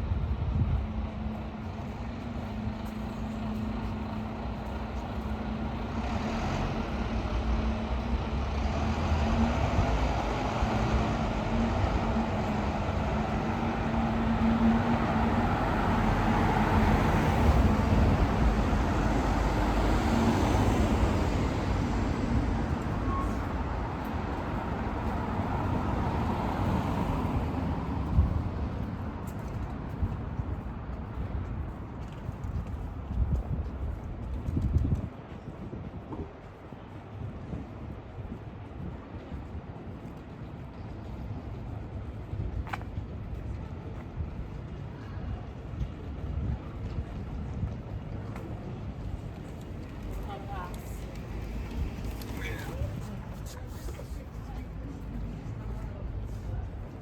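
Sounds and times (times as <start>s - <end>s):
low engine hum of traffic: 0.0s - 57.0s.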